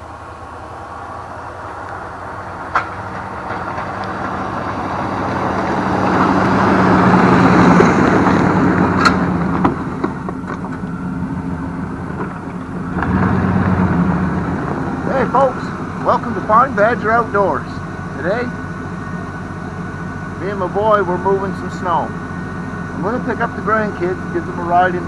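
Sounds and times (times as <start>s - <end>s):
rushing noise: 0.0s - 25.0s
truck engine running: 0.0s - 25.0s.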